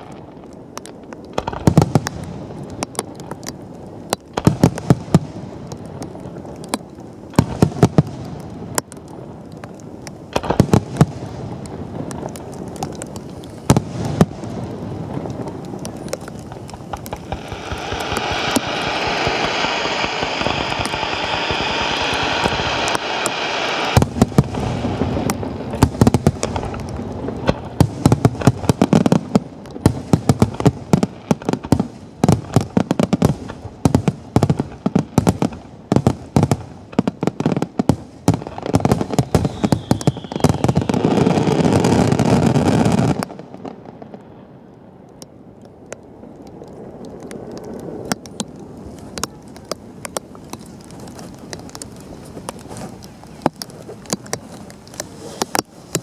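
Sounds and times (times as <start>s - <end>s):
firecrackers cracking: 0.0s - 56.0s
steady hiss: 0.0s - 56.0s.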